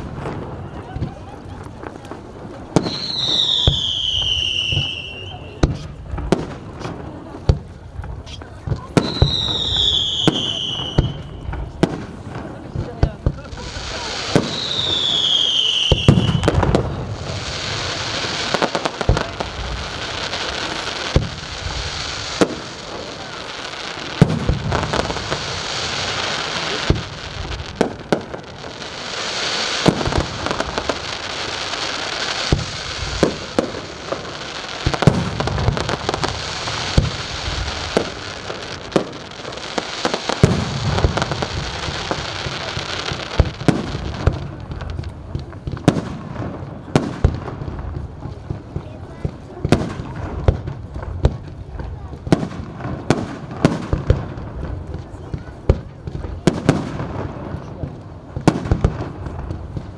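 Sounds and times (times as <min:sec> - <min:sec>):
fireworks hissing: 0:00.0 - 0:59.9.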